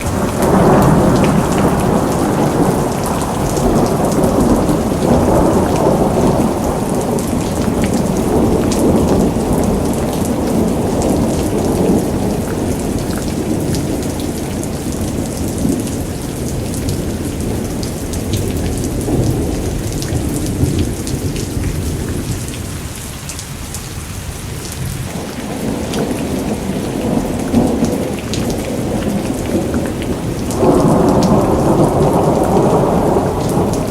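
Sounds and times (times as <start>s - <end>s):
rolling thunder rumble: 0.0s - 22.8s, 24.1s - 33.9s
heavy rain falling: 0.0s - 33.9s.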